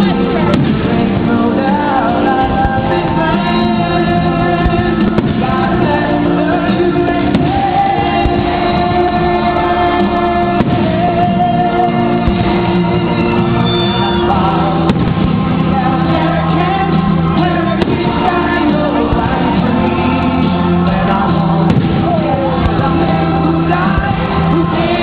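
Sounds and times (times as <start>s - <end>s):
fireworks pops: 0.0s - 9.4s, 10.0s - 16.3s, 17.0s - 25.0s
music with singing: 0.0s - 25.0s.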